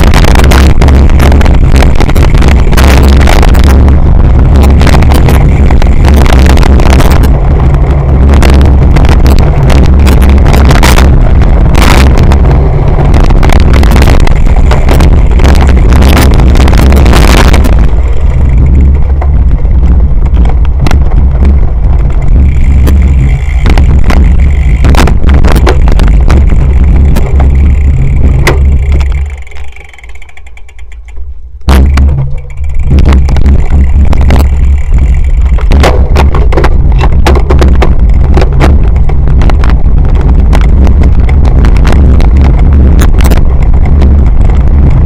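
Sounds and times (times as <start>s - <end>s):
wind buffeting microphone: 0.0s - 29.8s, 31.7s - 45.0s
bike knocking and rattling: 0.0s - 45.0s.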